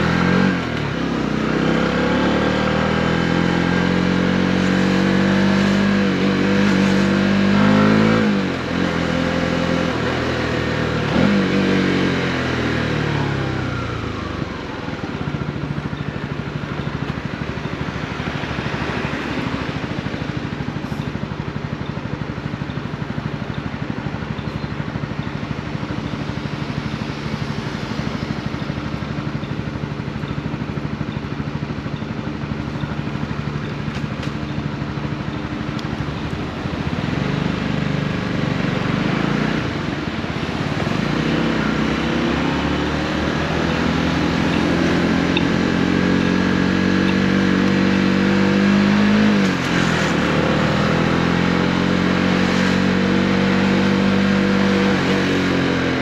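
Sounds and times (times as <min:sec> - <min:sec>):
motorcycle engine revving and idling: 0:00.0 - 0:56.0.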